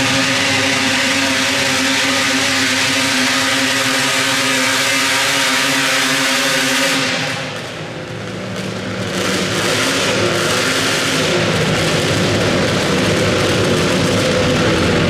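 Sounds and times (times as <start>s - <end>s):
tractor engine at high revs: 0.0s - 15.0s.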